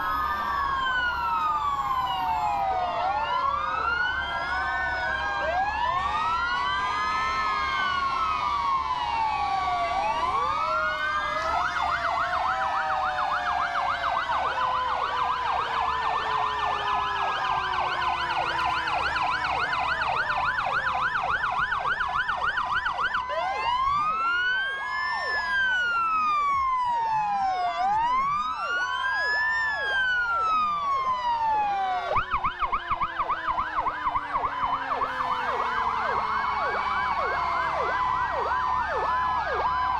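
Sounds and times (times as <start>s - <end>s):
fire truck sirens wailing: 0.0s - 39.9s
low falling siren tone: 0.0s - 39.9s
siren yelps: 0.0s - 39.9s.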